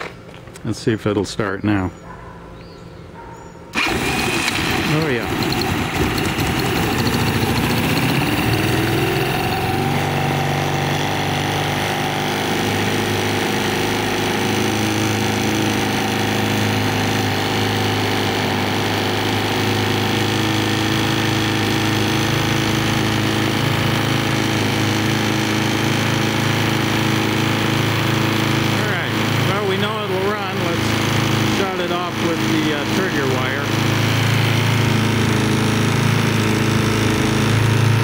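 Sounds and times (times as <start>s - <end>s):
scooter engine idling: 3.7s - 38.0s.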